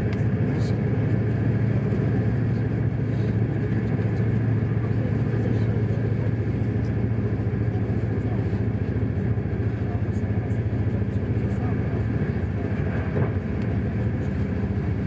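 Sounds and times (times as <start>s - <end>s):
train rumbling inside carriage: 0.0s - 15.0s.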